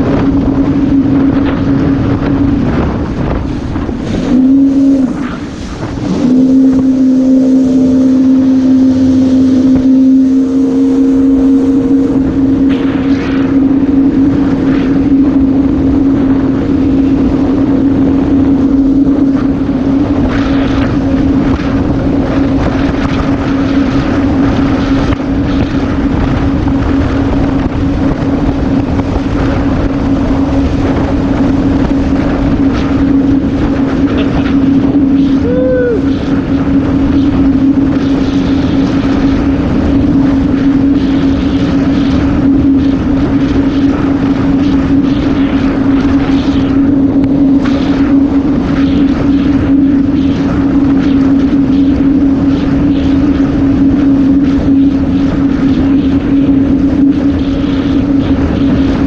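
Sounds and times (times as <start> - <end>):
personal watercraft engine running: 0.0 - 59.0
wind and water rushing: 0.0 - 59.0.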